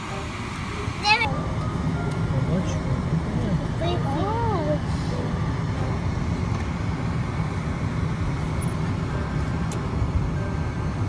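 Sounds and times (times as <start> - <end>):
car engine and tyres rumble: 0.0 - 11.0.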